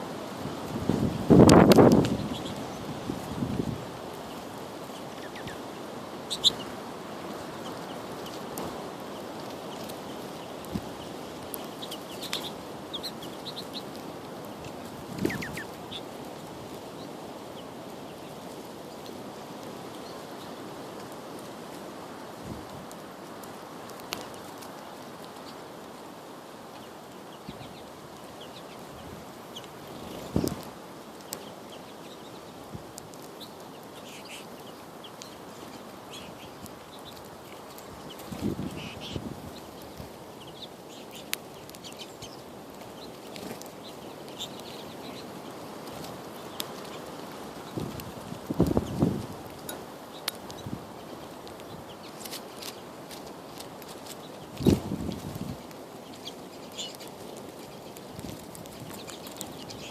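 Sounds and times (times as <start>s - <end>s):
outdoor background hiss: 0.0s - 59.9s
birds chirping: 0.8s - 21.7s, 26.6s - 59.9s.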